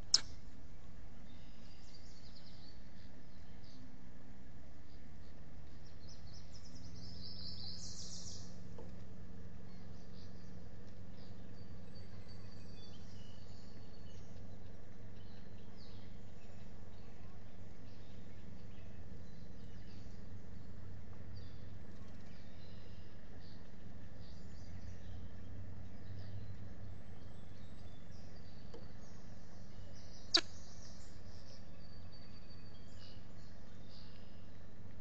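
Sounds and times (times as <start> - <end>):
steady low background noise: 0.0 - 35.0.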